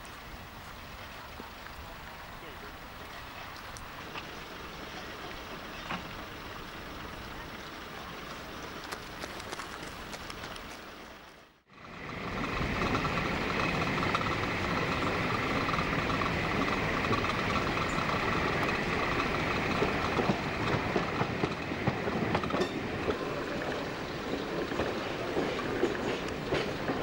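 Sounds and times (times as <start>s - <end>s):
train running: 0.0s - 27.0s
wheels clicking over rail joints: 0.0s - 27.0s.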